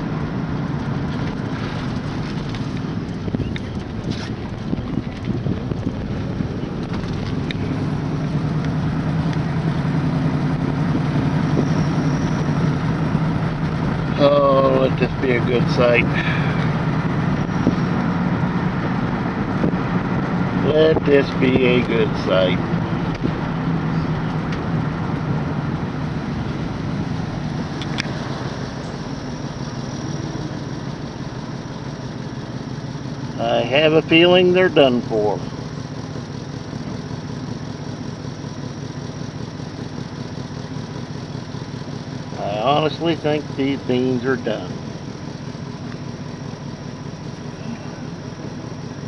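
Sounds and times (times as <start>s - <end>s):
road noise: 0.0s - 49.0s
vehicle engine running: 0.0s - 49.0s.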